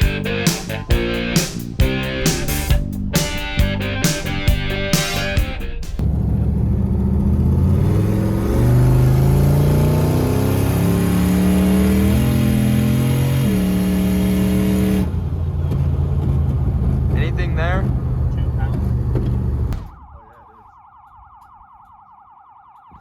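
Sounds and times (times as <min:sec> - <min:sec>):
truck engine accelerating: 0:00.0 - 0:19.8.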